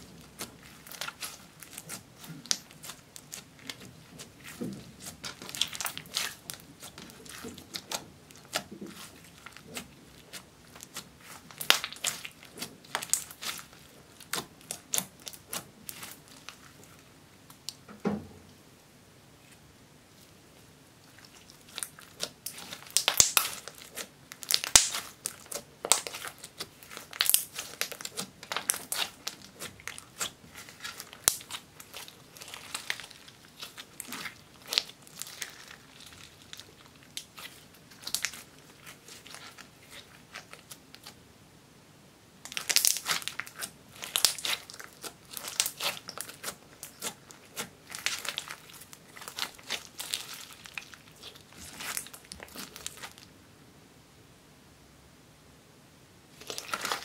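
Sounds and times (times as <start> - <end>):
slime kneaded with wet crackles: 0.0 - 17.9, 19.4 - 41.3, 42.4 - 53.4, 56.3 - 57.0.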